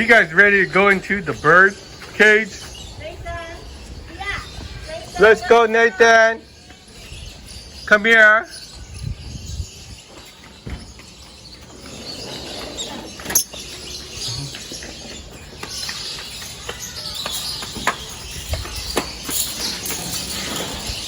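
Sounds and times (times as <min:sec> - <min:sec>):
caged birds chirping: 0:00.0 - 0:21.0.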